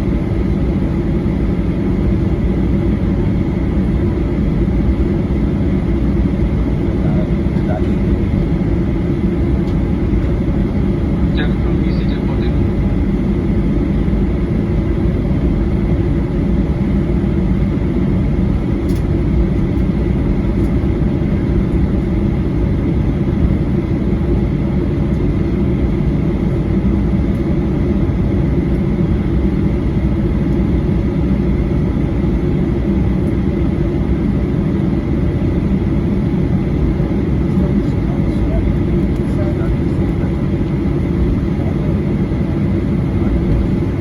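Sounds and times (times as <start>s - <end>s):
airplane cabin rumble: 0.0s - 44.0s.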